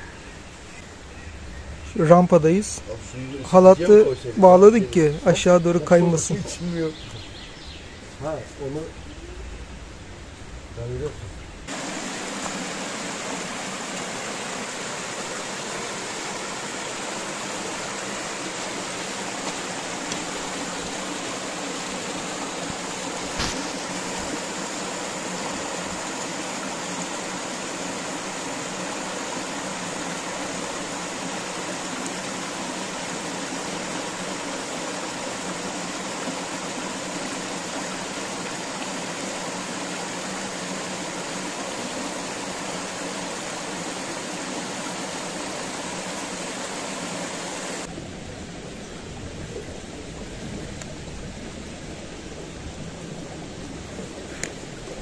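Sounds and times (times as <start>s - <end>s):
waterfall rushing over rocks: 1.7s - 7.2s, 8.0s - 55.0s.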